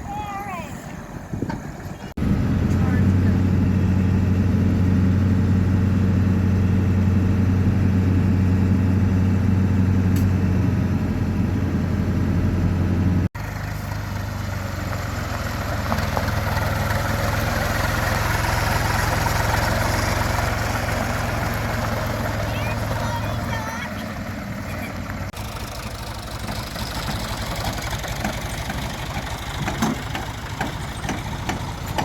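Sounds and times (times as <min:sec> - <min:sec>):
engine and road noise: 0:00.0 - 0:32.0
vehicle engine deep hum: 0:00.0 - 0:32.0.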